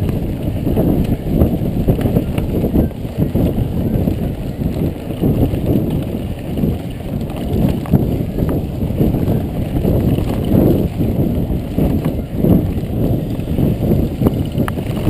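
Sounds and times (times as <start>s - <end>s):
bike knocking and rattling: 0.0s - 15.0s
bike tyre noise on dirt: 0.0s - 15.0s
wind rumble on microphone: 0.0s - 15.0s.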